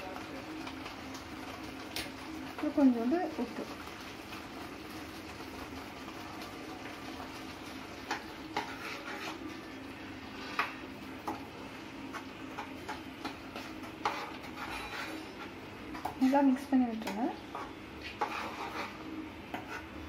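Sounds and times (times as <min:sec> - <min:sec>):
ladle stirring thick sauce: 0:00.0 - 0:16.3, 0:17.4 - 0:20.0.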